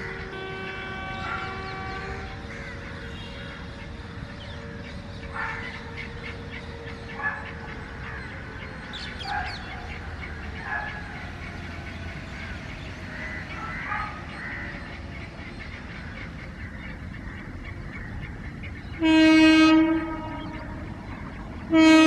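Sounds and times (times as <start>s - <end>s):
birds calling: 0.1s - 22.0s.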